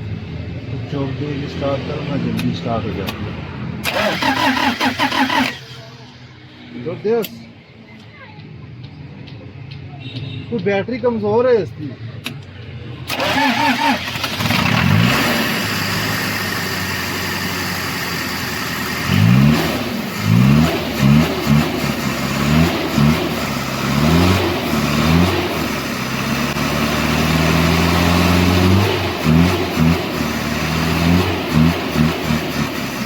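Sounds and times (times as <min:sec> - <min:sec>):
diesel engine idling and revving: 0:00.0 - 0:07.4, 0:11.8 - 0:33.0.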